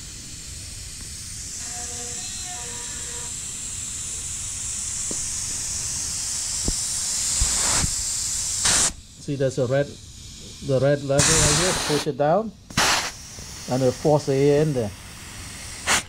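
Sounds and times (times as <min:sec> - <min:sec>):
compressed air hissing: 0:00.0 - 0:16.0.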